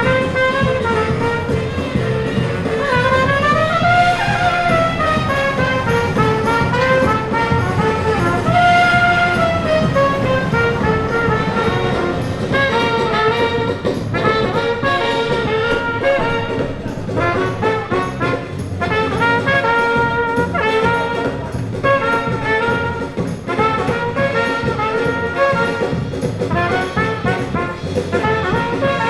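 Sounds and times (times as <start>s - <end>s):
trumpet playing a melody: 0.0s - 29.0s.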